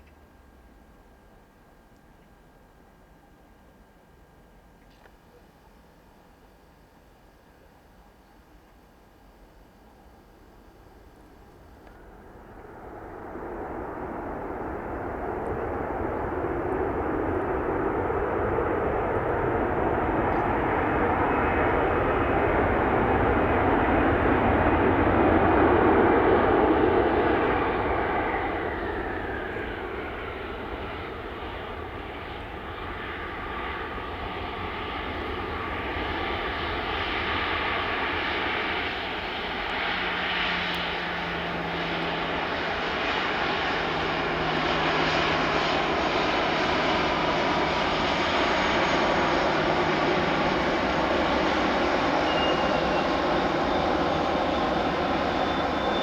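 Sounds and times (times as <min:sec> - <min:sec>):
airliner engines roaring past: 0:09.3 - 0:56.0
high engine whine: 0:10.7 - 0:56.0.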